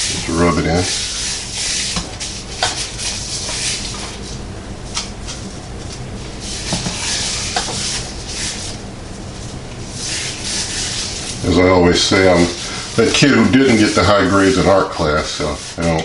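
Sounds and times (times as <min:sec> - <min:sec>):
hands rubbing meat swishing: 0:00.0 - 0:05.5, 0:06.2 - 0:16.0
low steady hum: 0:00.0 - 0:16.0.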